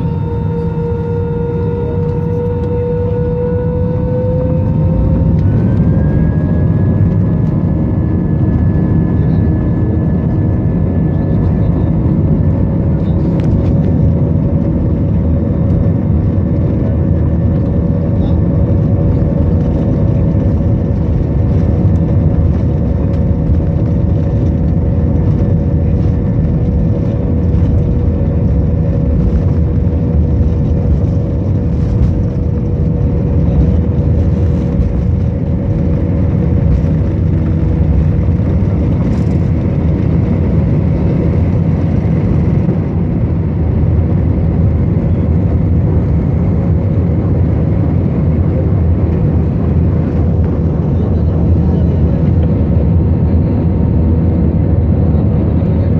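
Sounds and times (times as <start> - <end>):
jet engine and airflow rumble: 0.0 - 55.9.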